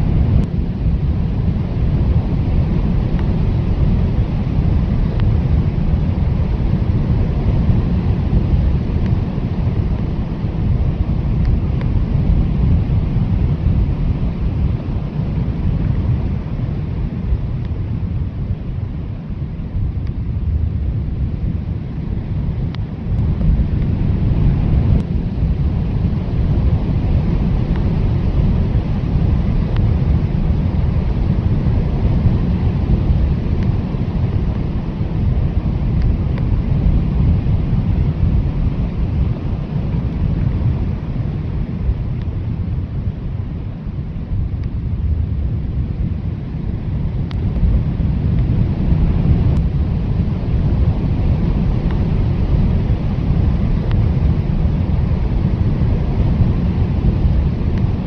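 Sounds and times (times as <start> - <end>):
blizzard wind blowing hard: 0.0 - 58.0.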